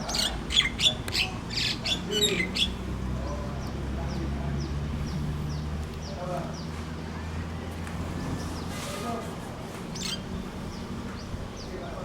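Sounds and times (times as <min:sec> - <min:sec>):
birds squawking and chirping: 0:00.0 - 0:09.2, 0:09.8 - 0:12.0.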